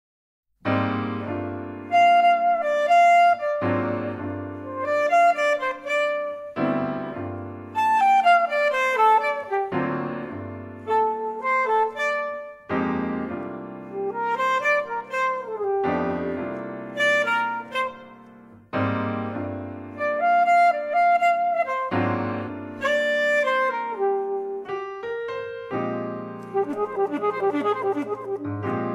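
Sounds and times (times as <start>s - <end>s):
piano bass chords: 0.6s - 28.9s
alto saxophone melody: 0.7s - 28.9s.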